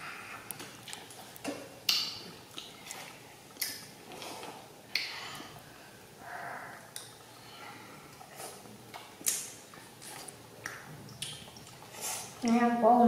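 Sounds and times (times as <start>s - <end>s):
children chewing and slurping: 0.0s - 12.8s.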